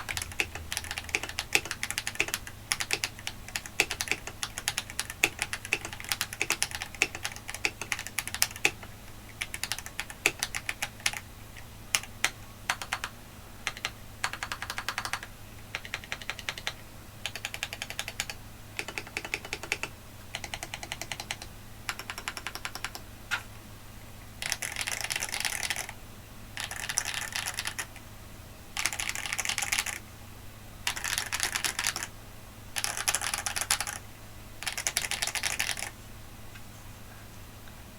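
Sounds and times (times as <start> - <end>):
typing on mechanical keyboard: 0.0 - 11.3, 11.9 - 23.0, 24.4 - 26.0, 26.6 - 28.0, 28.8 - 30.0, 30.8 - 32.1, 32.8 - 34.0, 34.6 - 35.9.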